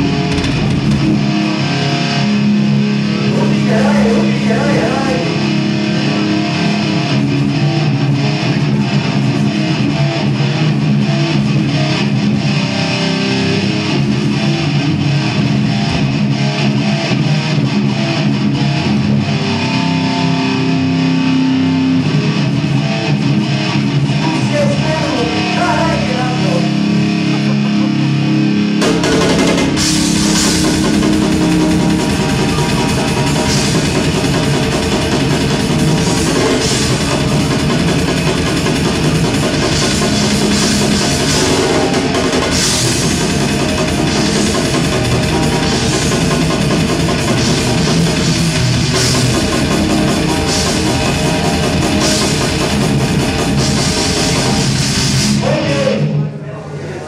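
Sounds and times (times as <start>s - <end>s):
metal band playing: 0.0s - 56.3s
electric guitar chords: 0.0s - 56.4s.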